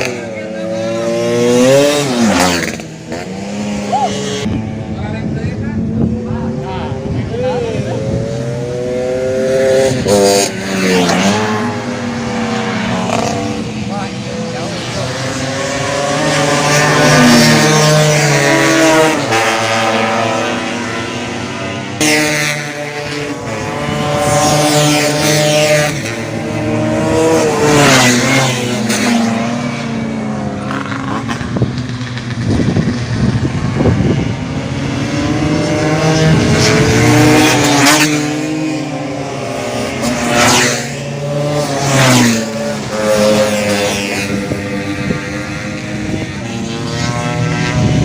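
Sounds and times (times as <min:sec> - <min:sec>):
scooter engines revving high: 0:00.0 - 0:48.0.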